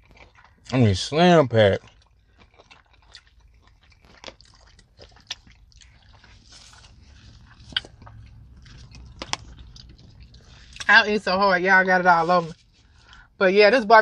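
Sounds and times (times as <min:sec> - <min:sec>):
wet chewing sounds: 0:00.0 - 0:13.4.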